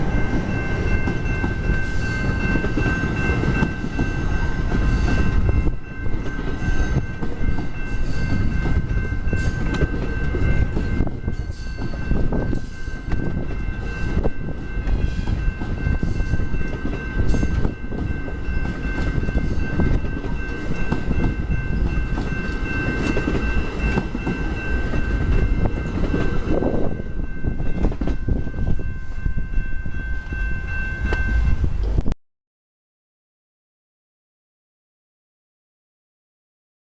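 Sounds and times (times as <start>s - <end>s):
train rumbling past: 0.0s - 32.2s.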